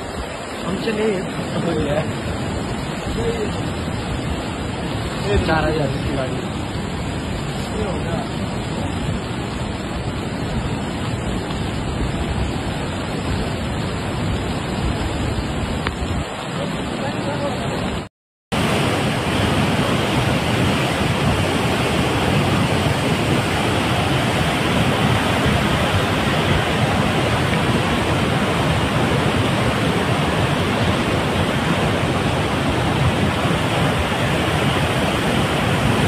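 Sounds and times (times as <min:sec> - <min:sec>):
flooded river rushing: 0:00.0 - 0:36.0.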